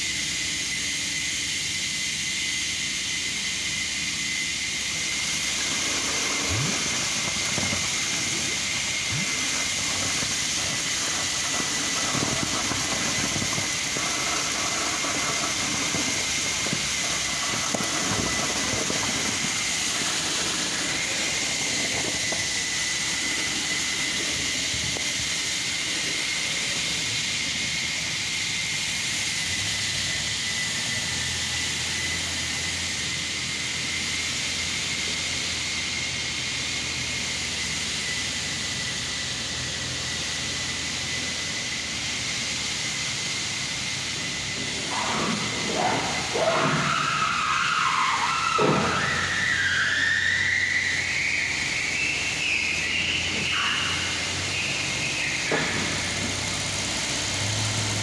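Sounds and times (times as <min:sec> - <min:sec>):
concrete pump hissing and whining: 0:00.0 - 0:58.0.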